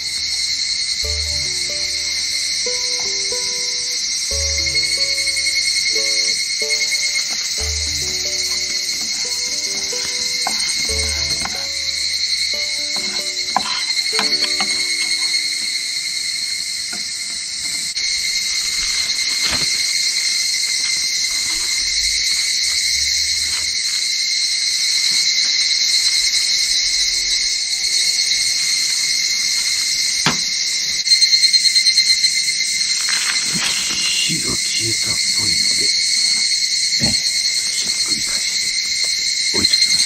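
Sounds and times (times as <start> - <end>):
cicadas singing in chorus: 0.0 - 40.0
pulsing insect call: 0.0 - 40.0.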